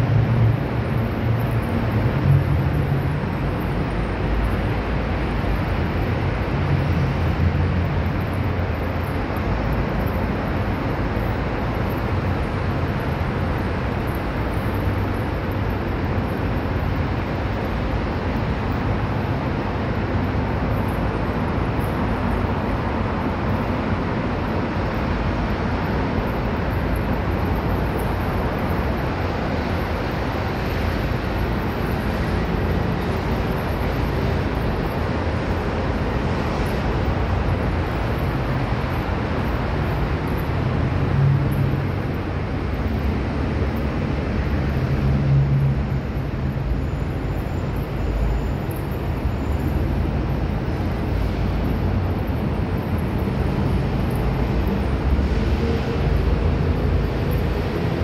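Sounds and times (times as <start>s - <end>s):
distant traffic roar: 0.0s - 58.0s.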